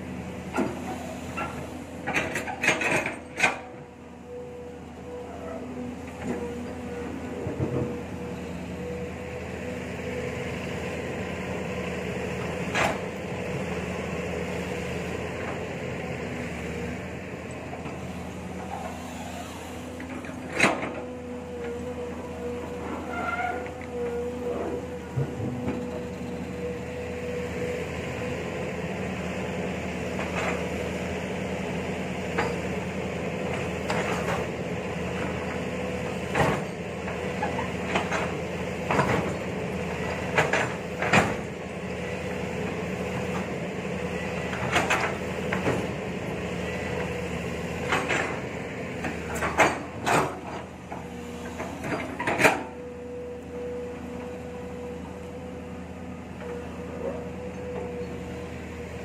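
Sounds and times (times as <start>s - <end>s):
excavator diesel engine whining: 0.0s - 59.0s.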